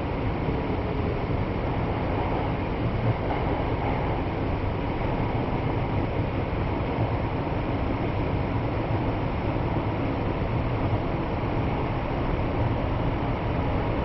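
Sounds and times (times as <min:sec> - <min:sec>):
subway train rumbling in tunnel: 0:00.0 - 0:14.0.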